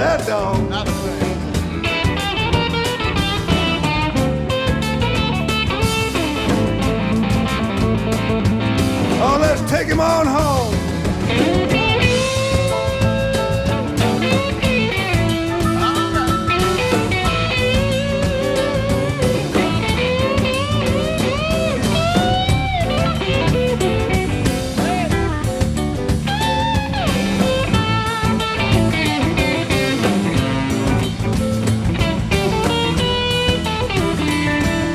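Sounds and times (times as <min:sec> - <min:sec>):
cajon beat: 0:00.0 - 0:34.9
electric guitar lead with bent notes: 0:00.0 - 0:34.9
second guitar: 0:00.0 - 0:34.9.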